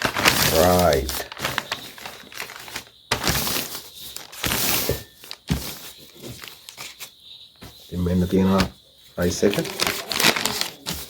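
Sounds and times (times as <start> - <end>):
food wrapping crinkling: 0.0 - 11.0.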